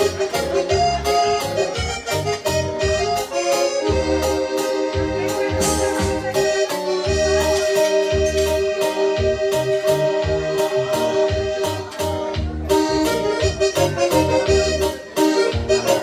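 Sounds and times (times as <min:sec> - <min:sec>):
pulsing bass line: 0:00.0 - 0:14.9
accordion melody: 0:00.0 - 0:16.0
steady drum beat: 0:00.0 - 0:16.0.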